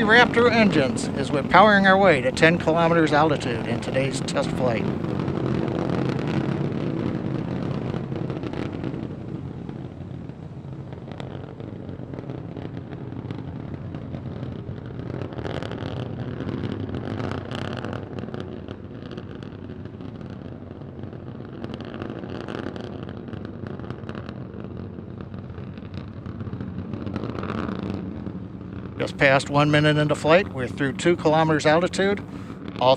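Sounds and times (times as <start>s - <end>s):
deep rocket engine rumble: 0.0s - 32.9s.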